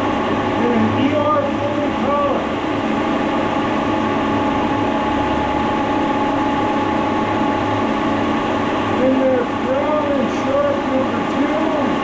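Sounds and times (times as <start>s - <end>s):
milling machine humming and whining: 0.0s - 12.0s.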